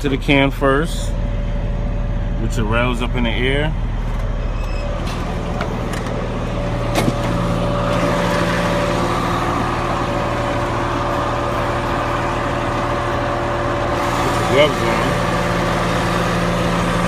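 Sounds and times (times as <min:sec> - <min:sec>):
steady whine: 0:00.0 - 0:17.0
truck engine running: 0:00.0 - 0:17.0.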